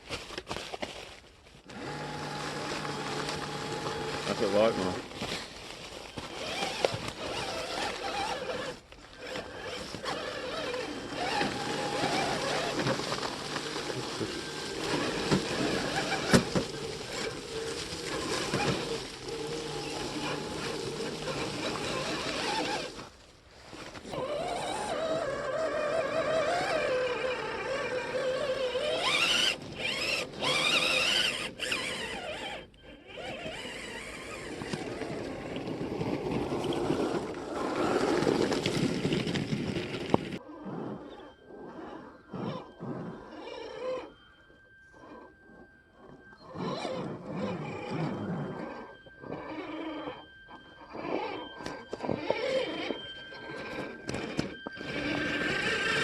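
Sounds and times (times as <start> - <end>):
toy truck electric motor whining: 1.6 - 40.5, 41.2 - 56.0.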